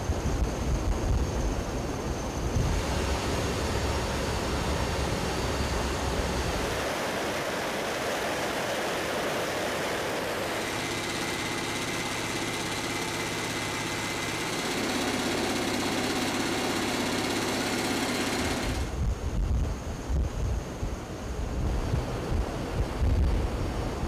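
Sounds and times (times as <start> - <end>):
rushing wind: 0.0 - 14.6, 17.1 - 24.0
aircraft engines and propellers droning: 0.0 - 24.0.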